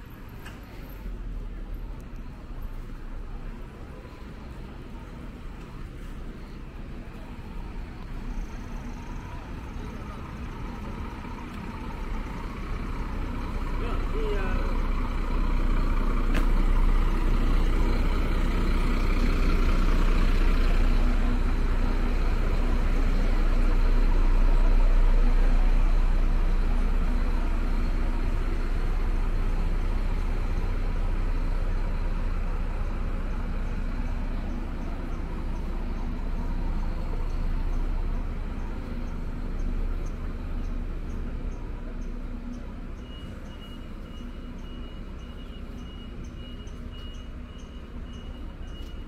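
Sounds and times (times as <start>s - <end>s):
vehicle engine rumble: 0.0s - 49.0s.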